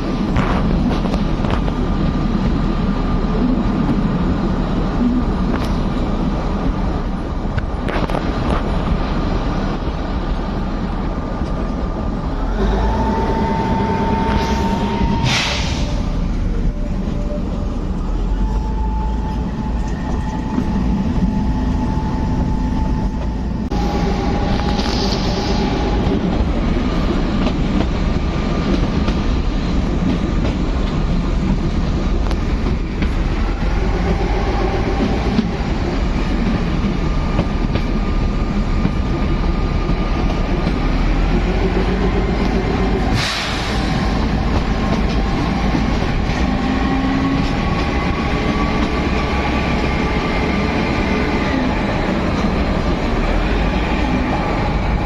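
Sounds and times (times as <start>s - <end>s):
train coach rumble and rattle: 0.0s - 55.0s.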